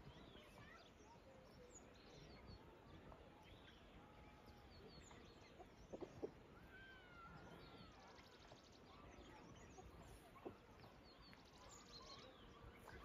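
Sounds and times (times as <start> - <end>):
faint bird chirps and whistles: 0.0 - 13.0.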